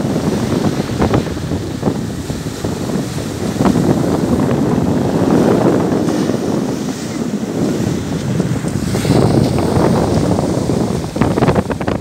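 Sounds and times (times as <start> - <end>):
surf breaking on pebble beach: 0.0 - 12.0
wind buffeting microphone: 0.0 - 12.0.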